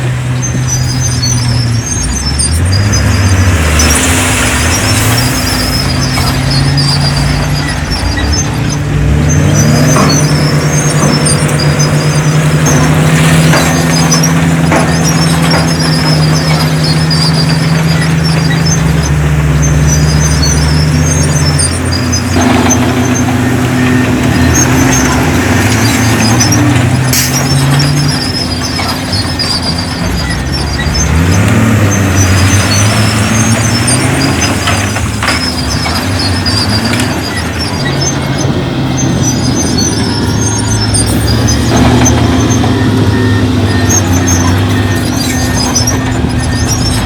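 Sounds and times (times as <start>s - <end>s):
heavy machinery diesel engine: 0.0s - 47.0s.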